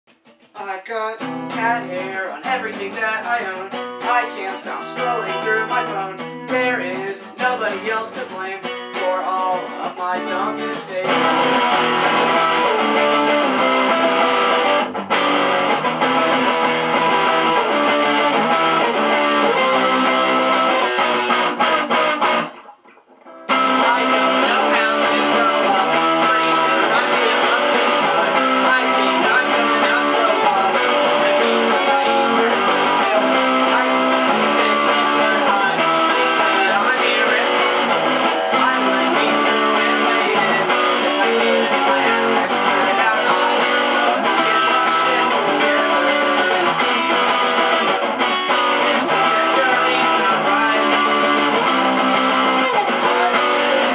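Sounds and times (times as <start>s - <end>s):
electric guitar strumming chords: 0.1s - 53.9s.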